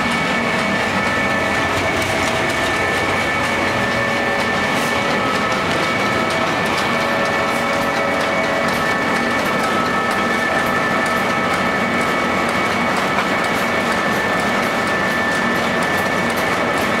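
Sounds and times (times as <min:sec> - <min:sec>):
pellet mill running: 0:00.0 - 0:17.0.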